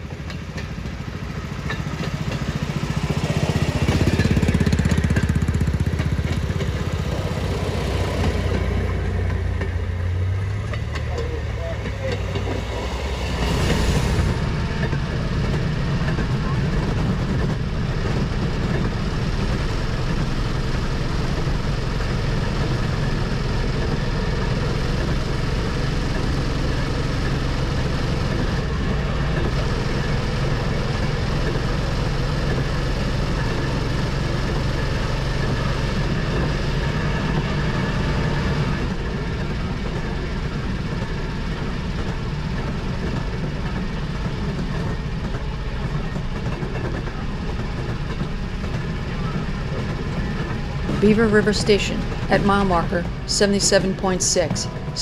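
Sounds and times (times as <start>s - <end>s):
rail motorcar engine drone: 0.0s - 55.0s
wheels on rails: 0.0s - 55.0s.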